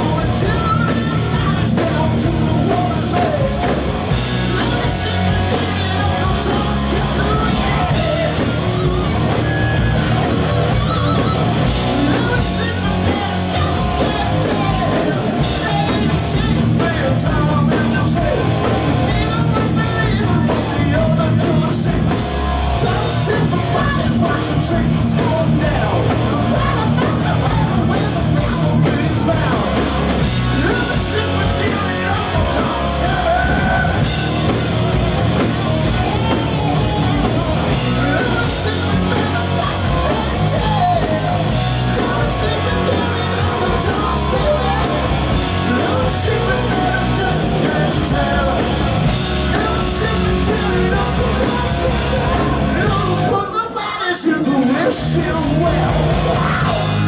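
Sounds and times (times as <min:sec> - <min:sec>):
hard rock band playing: 0:00.0 - 0:57.0
singer's lead vocals: 0:00.0 - 0:57.0.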